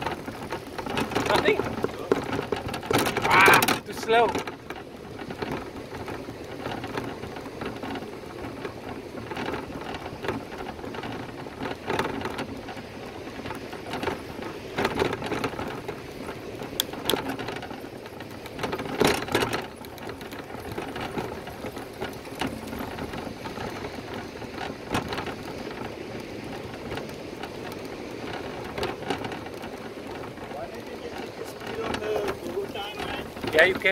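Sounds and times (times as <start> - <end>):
bicycle jolts: 0.0 - 33.9
bicycle rattling road noise: 0.0 - 33.9.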